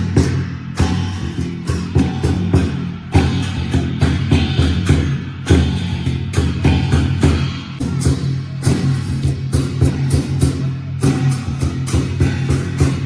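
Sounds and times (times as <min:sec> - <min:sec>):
band music with drums: 0:00.0 - 0:13.0.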